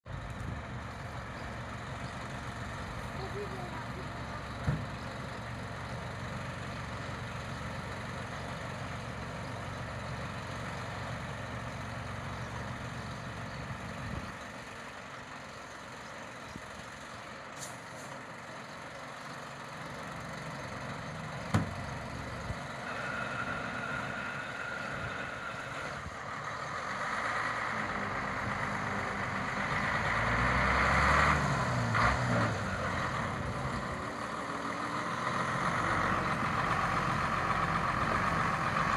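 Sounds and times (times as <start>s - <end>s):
fire truck engine running: 0.0s - 38.9s.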